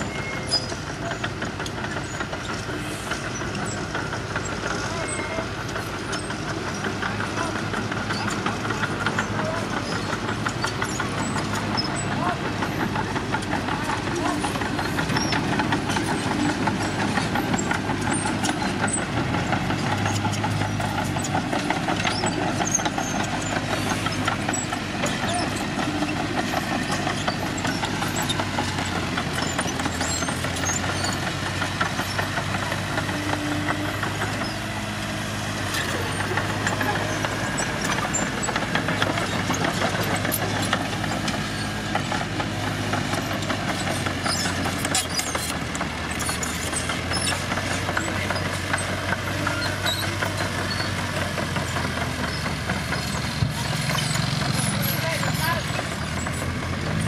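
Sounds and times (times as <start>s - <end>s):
bulldozer working: 0.0s - 57.0s
dump truck engine: 0.0s - 57.0s.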